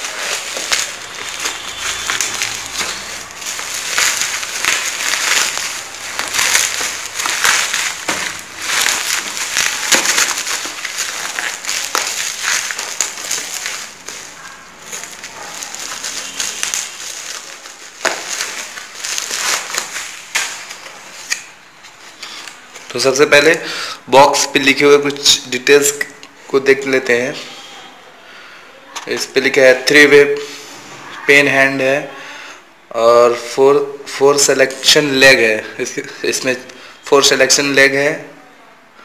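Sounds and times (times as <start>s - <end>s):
plastic wrap crackling and crinkling: 0.0s - 28.0s, 28.8s - 30.6s, 32.9s - 38.4s.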